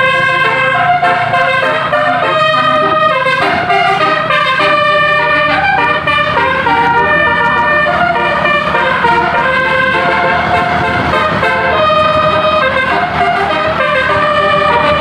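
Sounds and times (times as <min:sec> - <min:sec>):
musical air horn playing a tune: 0:00.0 - 0:15.0.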